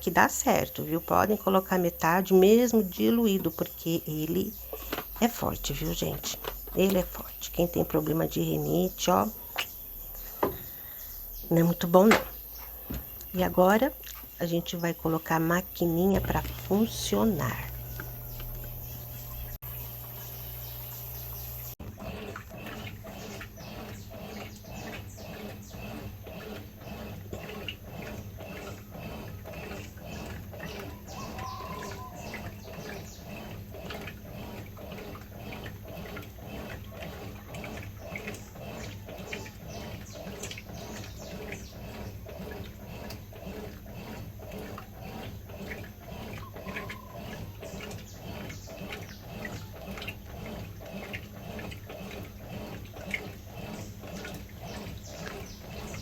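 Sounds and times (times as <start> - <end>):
low motor hum: 0.0 - 56.0
washing machine water sloshing: 0.0 - 56.0.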